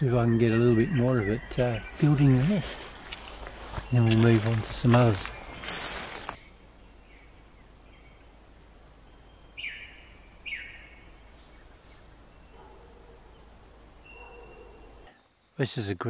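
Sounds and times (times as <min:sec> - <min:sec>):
downward sweeping bird calls: 0:00.0 - 0:15.2.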